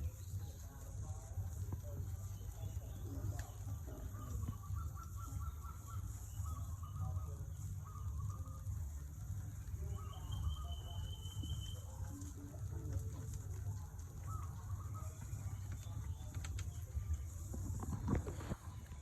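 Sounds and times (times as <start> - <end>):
bird calls: 2.2 - 18.6.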